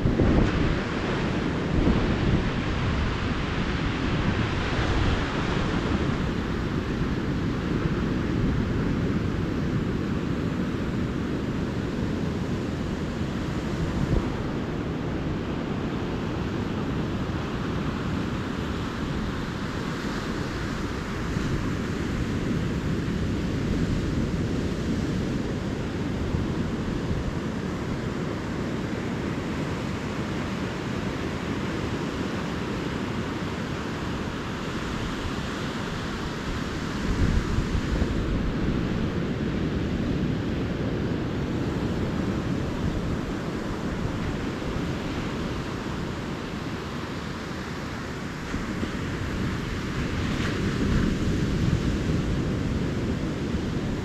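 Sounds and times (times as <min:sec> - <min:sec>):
ocean waves washing onto beach: 0:00.0 - 0:54.0
wind buffeting microphone: 0:00.0 - 0:54.0.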